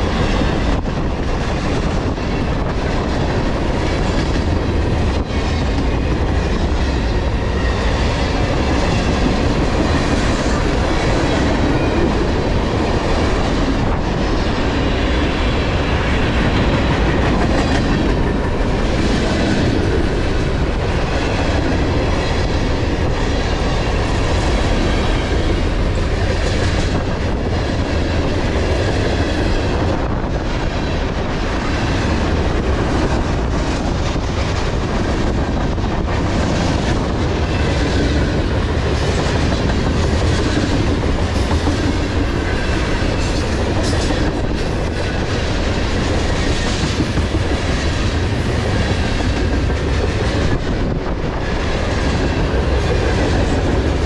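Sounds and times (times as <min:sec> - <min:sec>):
freight train wheels clattering: 0:00.0 - 0:54.0.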